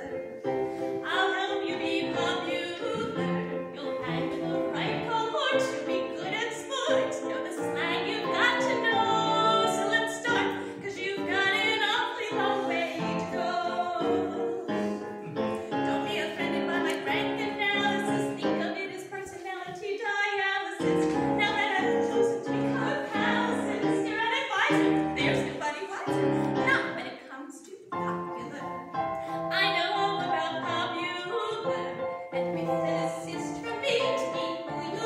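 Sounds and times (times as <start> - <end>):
woman singing with vibrato: 1.0 - 15.0, 15.7 - 35.0.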